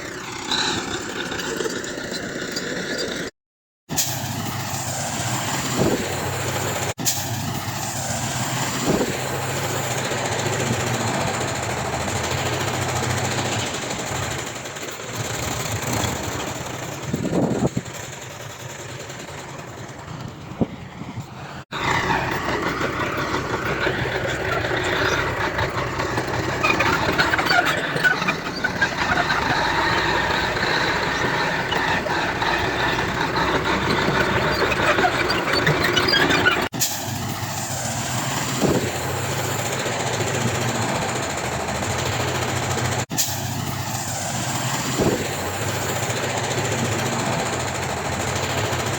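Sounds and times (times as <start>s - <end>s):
diesel machinery running: 0.0s - 3.3s, 3.9s - 48.9s
bright busy machine noise: 3.9s - 48.9s.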